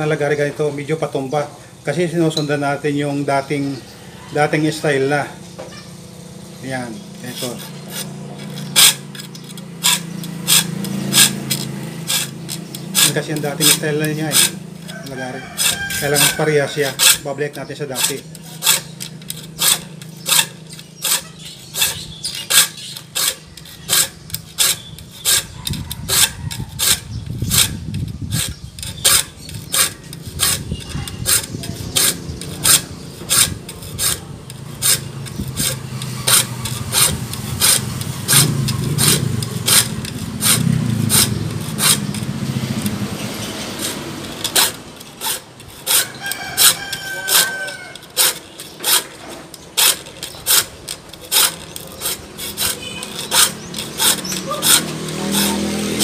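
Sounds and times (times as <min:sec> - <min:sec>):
file rasping on saw teeth: 0:06.7 - 0:56.0.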